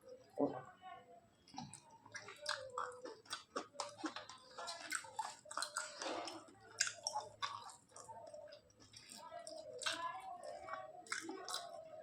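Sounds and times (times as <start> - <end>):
person chewing food: 1.4 - 12.0.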